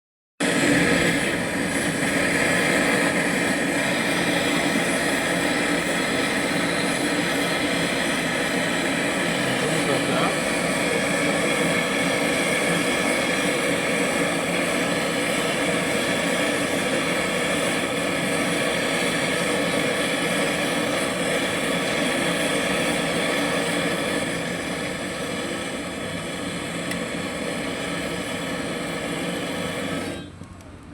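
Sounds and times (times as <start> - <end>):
brazing torch flame hissing: 0.4 - 30.4.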